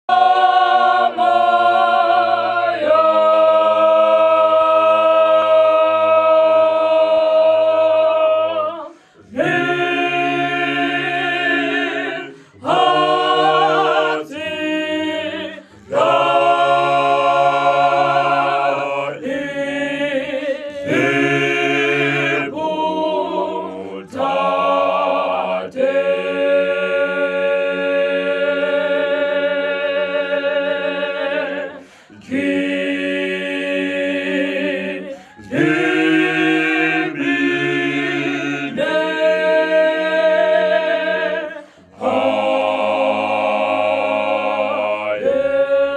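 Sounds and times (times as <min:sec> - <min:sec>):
vocal group singing in harmony: 0:00.0 - 0:45.9.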